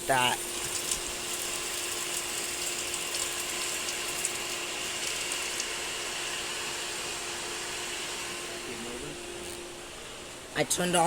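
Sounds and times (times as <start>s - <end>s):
pool pump humming: 0.0s - 11.0s.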